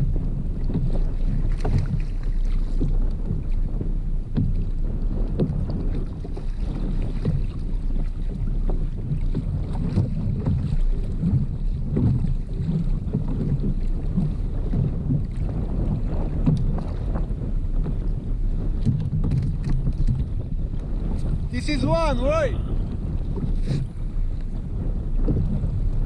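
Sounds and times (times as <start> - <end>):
water lapping against hull: 0.0 - 26.0
wind rumbling on microphone: 0.0 - 26.0.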